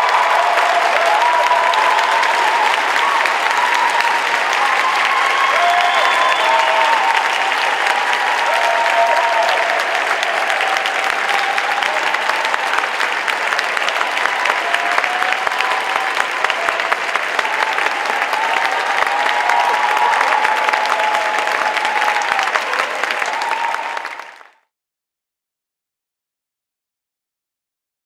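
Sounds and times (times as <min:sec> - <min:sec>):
audience applauding: 0:00.0 - 0:24.7.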